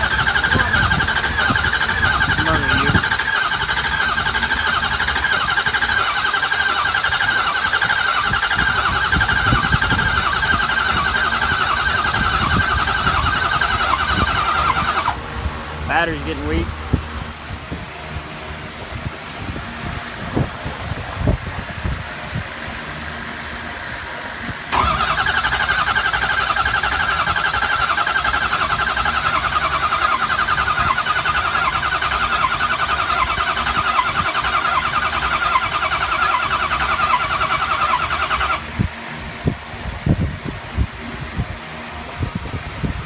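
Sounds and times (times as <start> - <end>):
diesel engine cranking on starter: 0.0 - 15.3, 19.7 - 39.2.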